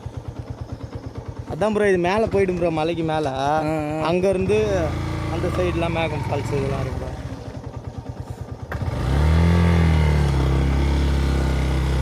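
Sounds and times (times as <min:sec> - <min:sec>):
motorcycle engine idling: 0:00.0 - 0:12.0
motorcycle engine revving: 0:00.0 - 0:12.0.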